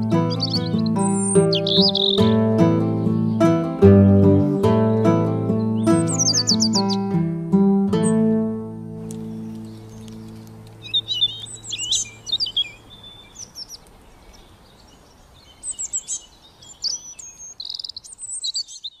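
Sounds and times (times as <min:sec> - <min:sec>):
songbirds chirping and twittering: 0:00.0 - 0:19.0.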